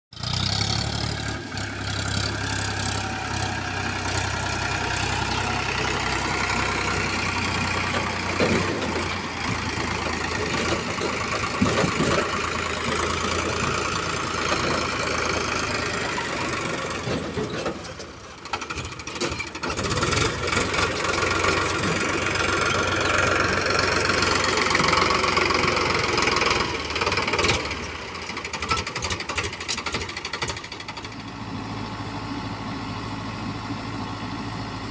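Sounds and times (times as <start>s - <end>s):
heavy diesel engine running: 0.1s - 34.9s.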